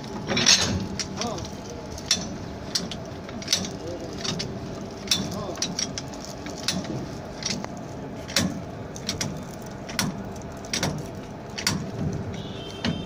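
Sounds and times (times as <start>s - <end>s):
steady machinery hum: 0.0s - 13.0s
metallic clicks and knocks: 0.2s - 7.7s, 8.3s - 13.0s.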